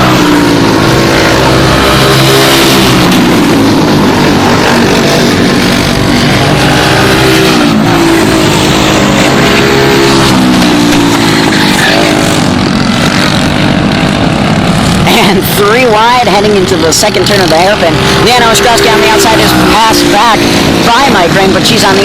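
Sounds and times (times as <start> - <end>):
go-kart engines running hard: 0.0 - 22.0.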